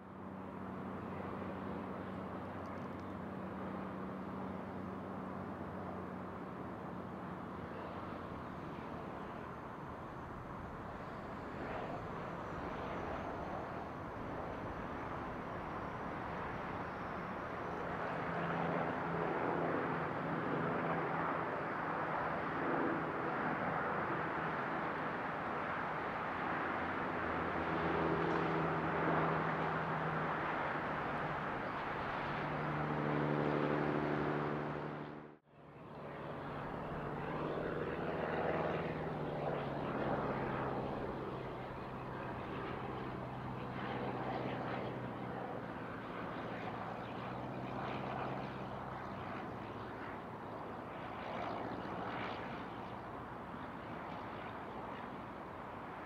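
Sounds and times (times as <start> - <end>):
propeller airplane engine droning: 0.0 - 56.0.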